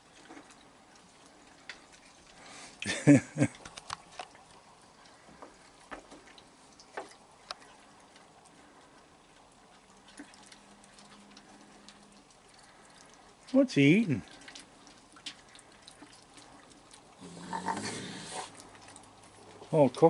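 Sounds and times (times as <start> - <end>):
paws at water bucket: 0.0 - 20.0
raccoons chewing: 0.0 - 20.0.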